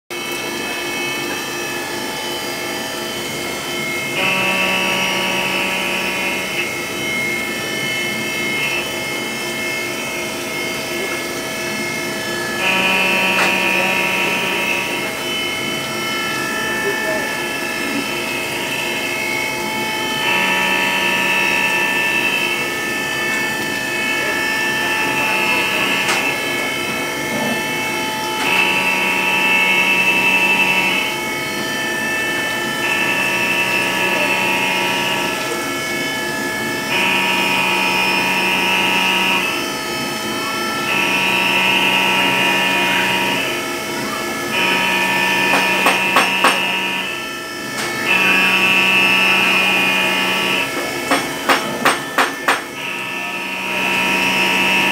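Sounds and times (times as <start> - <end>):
cutter cutting metal: 0.1 - 54.9
milling machine whine: 0.1 - 54.9.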